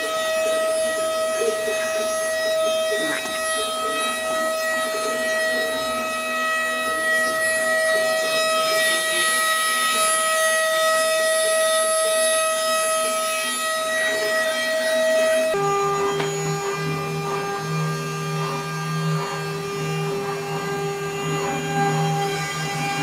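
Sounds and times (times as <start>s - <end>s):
bit cutting wood: 0.0s - 23.0s
router spindle whine: 0.0s - 23.0s.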